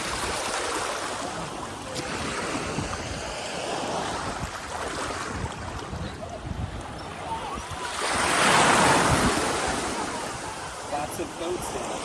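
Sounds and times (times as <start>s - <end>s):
surf washing onto beach: 0.0s - 12.0s
wind rumbling on microphone: 0.0s - 12.0s.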